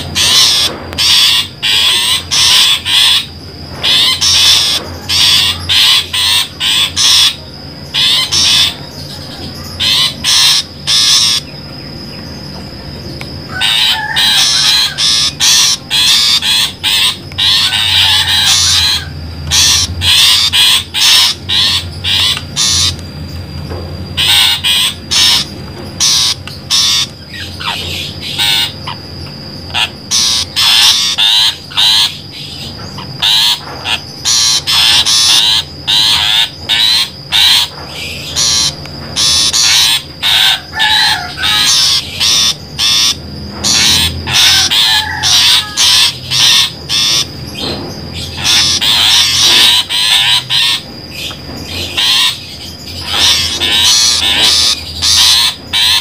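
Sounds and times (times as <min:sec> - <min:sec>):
bird warbling: 0:00.0 - 0:56.0
shrike harsh calls: 0:00.0 - 0:56.0.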